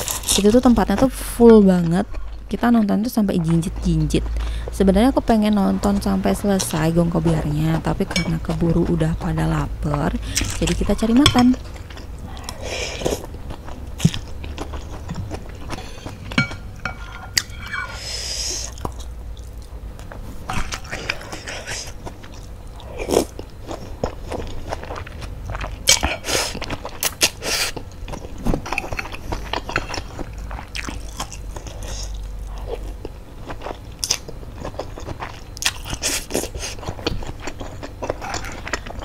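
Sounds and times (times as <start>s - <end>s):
chewing with wet mouth clicks: 0.0s - 16.4s, 18.7s - 39.0s.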